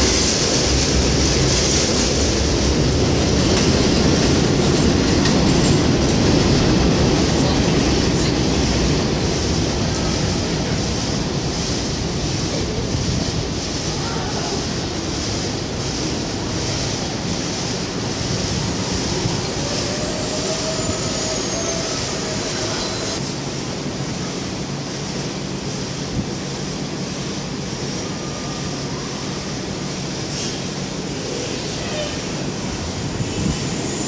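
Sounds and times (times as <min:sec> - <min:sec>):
distant subway train rumbling: 0:00.0 - 0:34.0.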